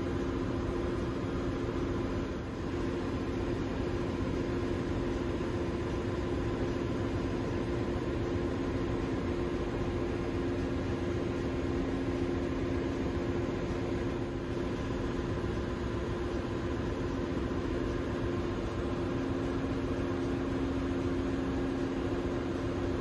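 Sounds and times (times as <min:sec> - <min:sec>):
engine room machinery hum: 0:00.0 - 0:23.0.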